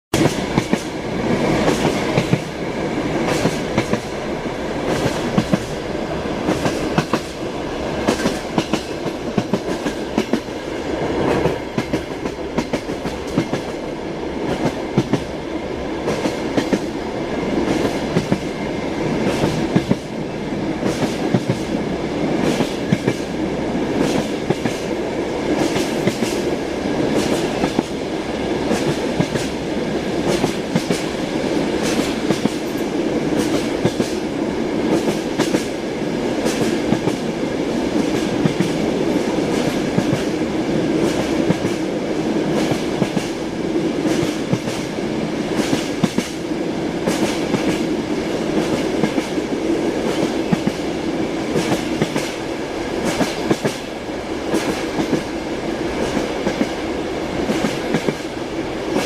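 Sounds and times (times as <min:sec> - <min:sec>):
train rumble: 0:00.1 - 0:59.0.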